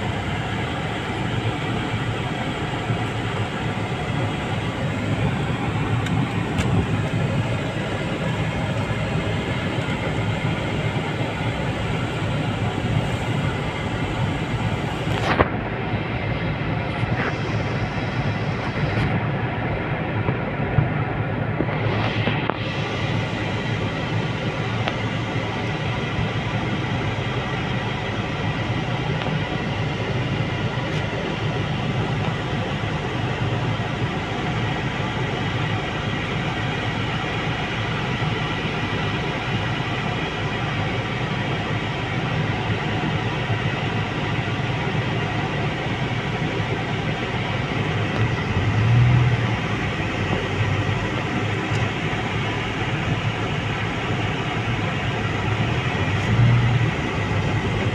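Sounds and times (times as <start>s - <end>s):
engine rumble inside vehicle: 0.0s - 57.9s.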